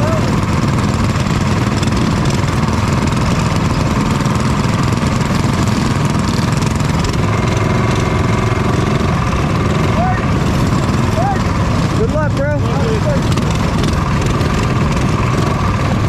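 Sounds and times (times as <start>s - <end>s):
minibike engines running: 0.0s - 16.0s.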